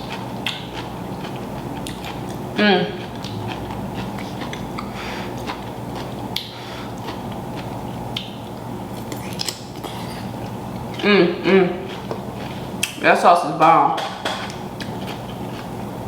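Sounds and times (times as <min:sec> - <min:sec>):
person chewing food: 0:00.0 - 0:13.0, 0:14.2 - 0:16.0.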